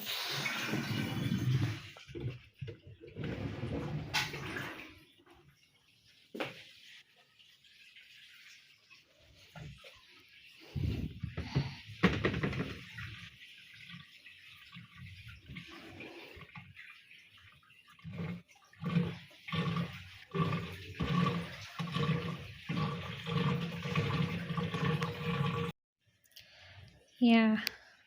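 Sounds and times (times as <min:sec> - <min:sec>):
water draining through hose: 0:00.0 - 0:05.2, 0:07.1 - 0:25.8.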